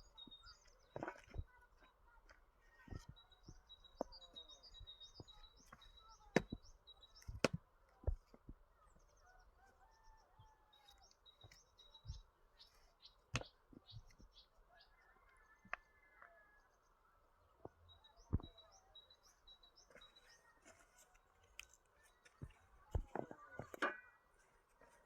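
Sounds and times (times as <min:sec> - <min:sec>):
birds chirping and calling: 0:00.0 - 0:02.0, 0:02.6 - 0:17.0, 0:17.6 - 0:25.0.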